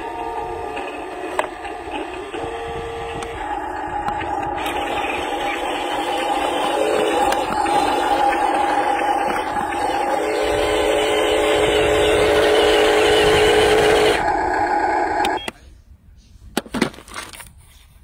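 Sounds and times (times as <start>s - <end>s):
lower motor whine: 0.0s - 15.5s
toy vehicle motors whining: 0.0s - 15.5s.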